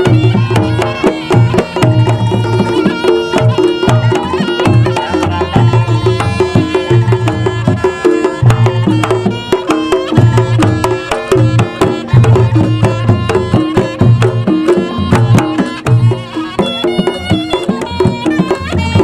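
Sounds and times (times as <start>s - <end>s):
pitched melody notes: 0.0s - 19.0s
rapid hand drum strokes: 0.0s - 19.0s.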